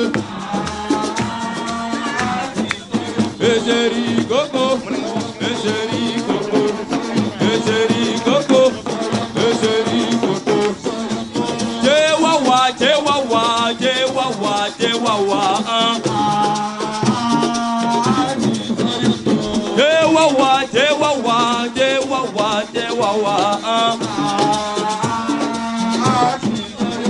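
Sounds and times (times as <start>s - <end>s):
shaker-like percussion: 0.0s - 27.0s
upbeat dance music with singing: 0.0s - 27.0s.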